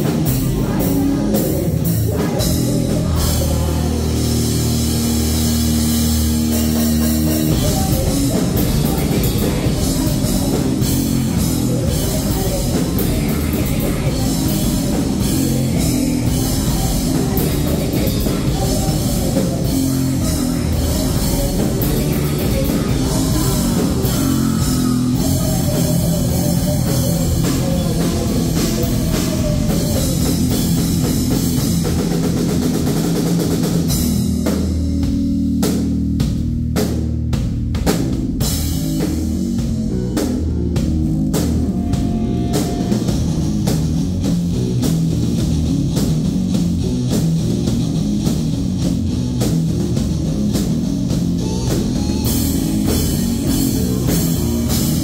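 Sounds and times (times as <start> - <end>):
heavy rock band playing: 0.0 - 55.0.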